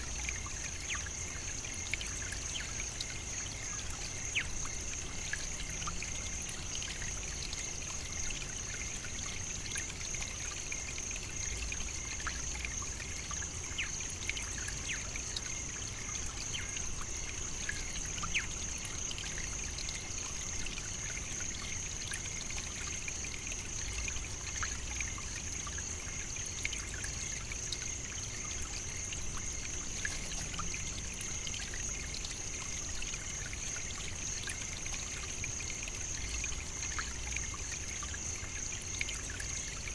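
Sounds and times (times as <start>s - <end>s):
small scattered ticks: 0.0s - 39.9s
trickling hiss: 0.0s - 39.9s.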